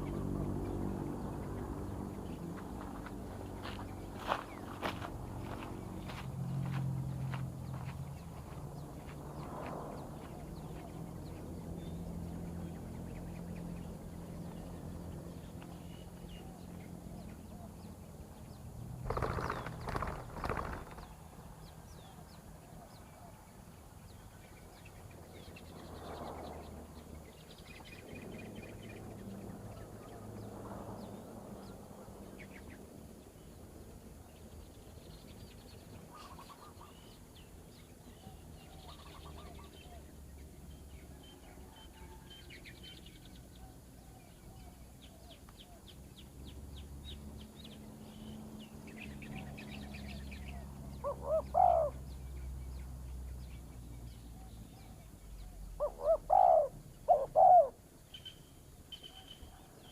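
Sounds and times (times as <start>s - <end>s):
low soft bird calls: 0.0s - 59.9s
songbirds chirping and trilling: 0.0s - 59.9s.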